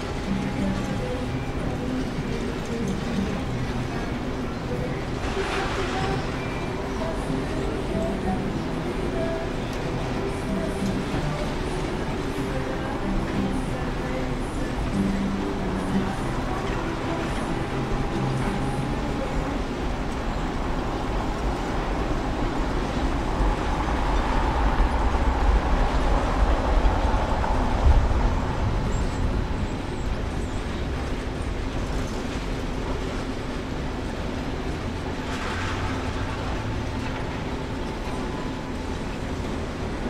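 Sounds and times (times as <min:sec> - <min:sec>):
moving vehicle rumble: 0:00.0 - 0:40.0.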